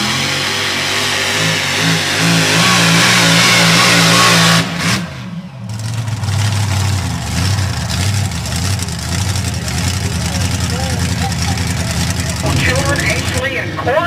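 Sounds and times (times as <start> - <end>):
truck engine at full throttle: 0.0 - 14.0.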